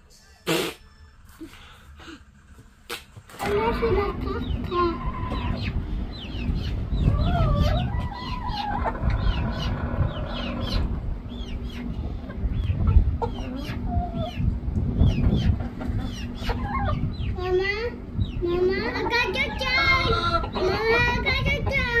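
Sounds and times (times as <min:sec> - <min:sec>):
chickens clucking and peeping: 0:03.3 - 0:22.0
low rumble: 0:03.5 - 0:22.0.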